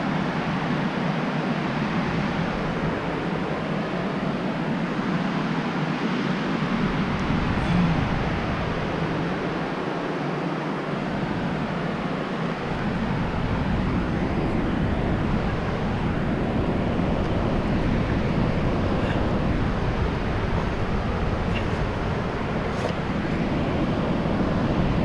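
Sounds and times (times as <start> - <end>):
wind blowing across microphone: 0.0 - 25.0.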